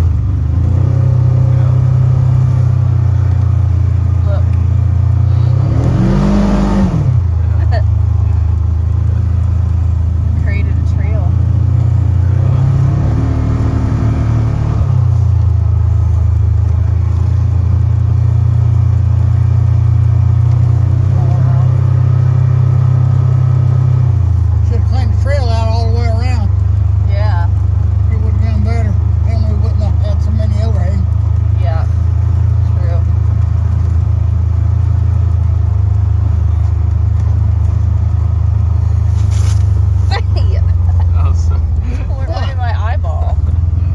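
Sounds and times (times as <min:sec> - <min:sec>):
vehicle engine under load: 0:00.0 - 0:43.9.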